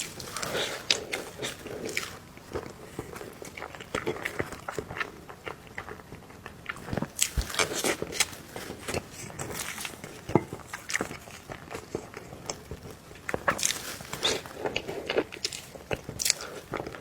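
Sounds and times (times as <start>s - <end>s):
person chewing cake: 0.0s - 17.0s.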